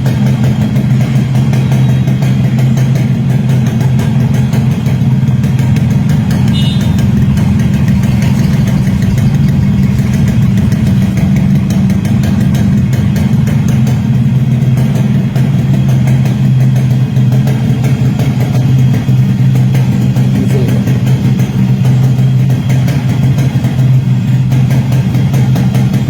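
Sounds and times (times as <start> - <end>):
two-stroke engine idling: 0.0 - 26.0.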